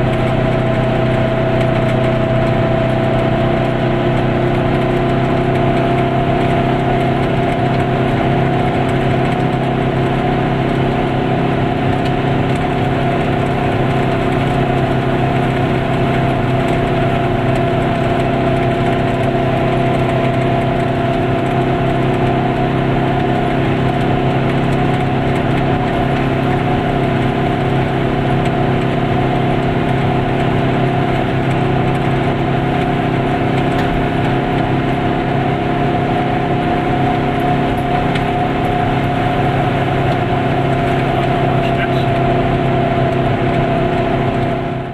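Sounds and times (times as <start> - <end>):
road noise: 0.0 - 44.9
two-stroke engine running: 0.0 - 44.9.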